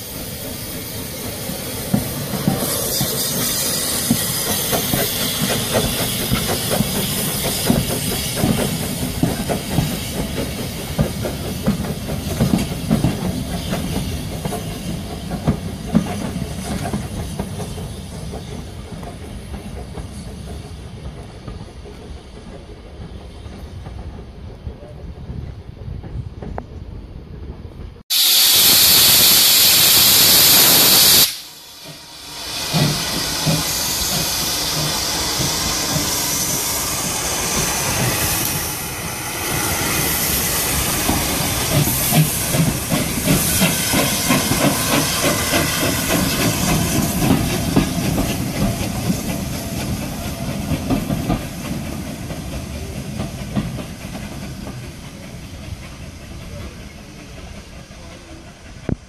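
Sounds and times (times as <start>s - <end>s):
locomotive chuffing: 0.0s - 25.2s, 30.5s - 59.0s
steam locomotive rush of steam: 0.0s - 59.0s.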